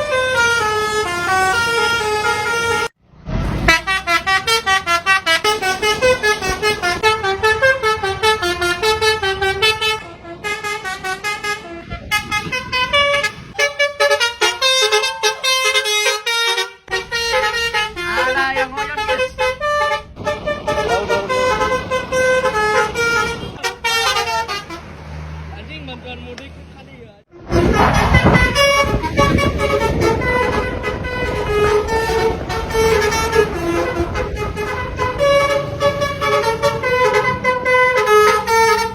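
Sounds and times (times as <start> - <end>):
bus horn playing a tune: 0.0 - 3.0, 3.6 - 25.0, 27.3 - 38.9.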